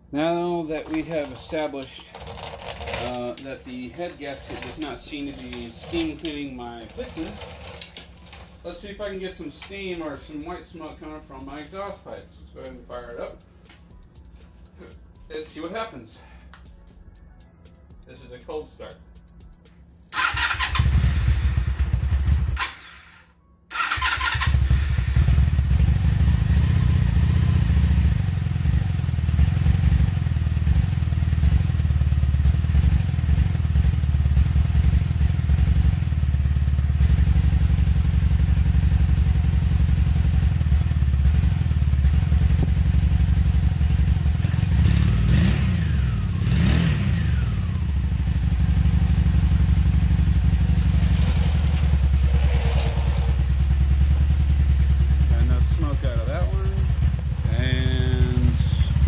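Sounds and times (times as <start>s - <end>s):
motorcycle engine idling: 0.8s - 16.9s, 19.0s - 59.0s.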